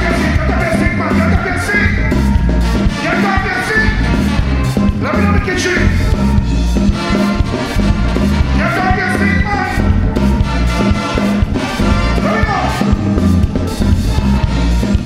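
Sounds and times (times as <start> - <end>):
bass: 0.0 - 15.0
drum kit: 0.0 - 15.0
saxophones and trumpets: 0.0 - 15.0.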